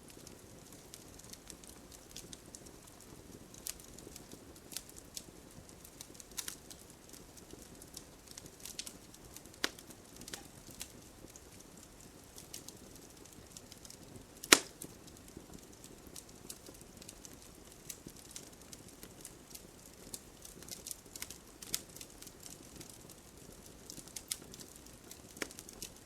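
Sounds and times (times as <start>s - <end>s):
campfire crackles and pops: 0.0s - 26.0s.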